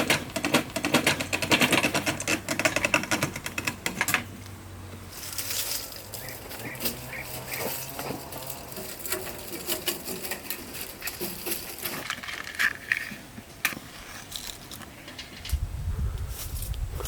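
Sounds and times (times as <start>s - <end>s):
dry corn husks rustling: 1.2s - 17.0s.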